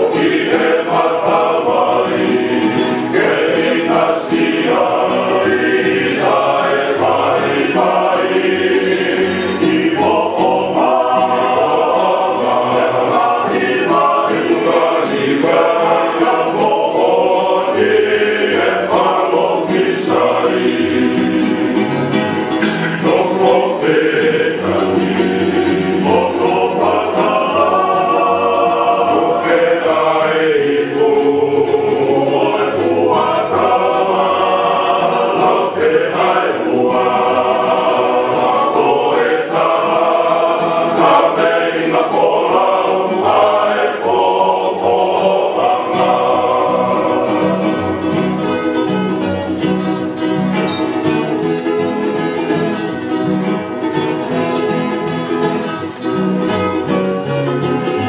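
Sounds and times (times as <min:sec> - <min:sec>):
group singing in harmony: 0:00.0 - 0:56.7
strummed strings: 0:00.0 - 0:58.0.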